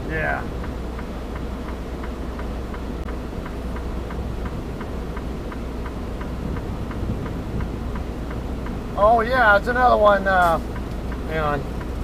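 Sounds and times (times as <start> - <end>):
diesel engine idling: 0.0 - 12.0
indicator flasher ticking: 0.1 - 12.0.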